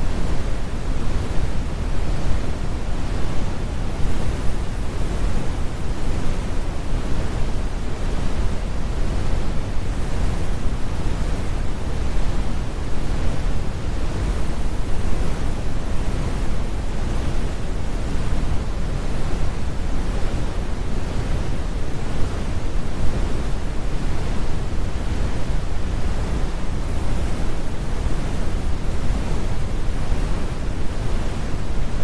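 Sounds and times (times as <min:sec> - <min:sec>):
brown noise deep rumble: 0:00.0 - 0:32.0.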